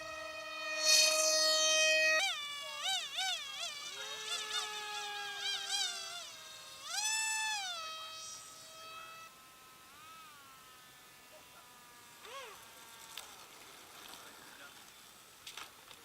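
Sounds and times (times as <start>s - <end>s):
model jet electric motor whining: 0.0s - 16.0s.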